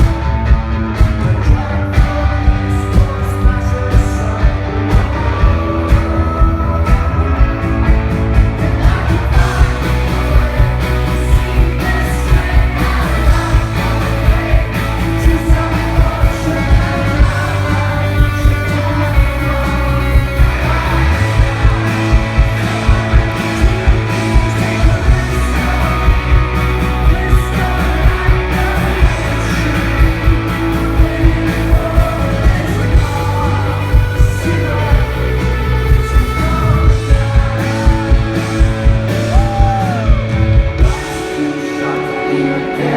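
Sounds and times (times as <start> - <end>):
drums beat: 0.0 - 41.4
bass and guitars: 0.0 - 42.9
lead vocals: 0.0 - 42.9.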